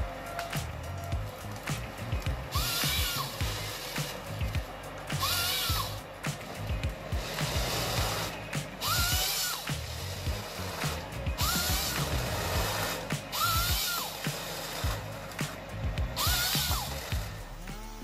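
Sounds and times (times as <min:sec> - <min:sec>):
harvester head hissing feed: 0:00.0 - 0:18.0
saw whining: 0:00.0 - 0:18.0
tractor running: 0:00.0 - 0:18.0.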